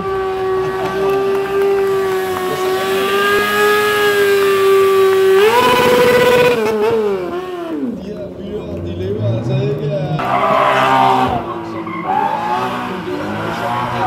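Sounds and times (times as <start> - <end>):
motorcycle engine at high revs: 0.0 - 8.3, 10.6 - 14.0.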